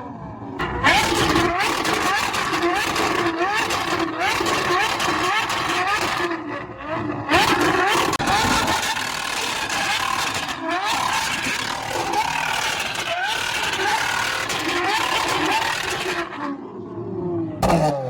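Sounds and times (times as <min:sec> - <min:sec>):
car engines revving: 0:00.6 - 0:18.0.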